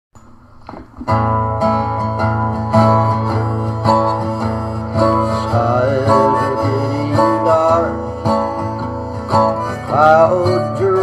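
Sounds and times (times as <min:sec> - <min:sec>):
strummed acoustic guitar: 0:00.2 - 0:11.0.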